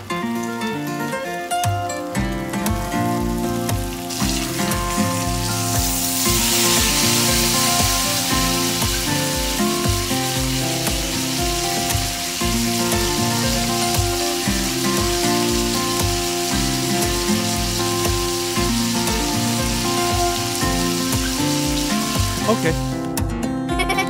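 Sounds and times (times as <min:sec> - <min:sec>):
eggs sizzling in frying pan: 0:02.2 - 0:23.0.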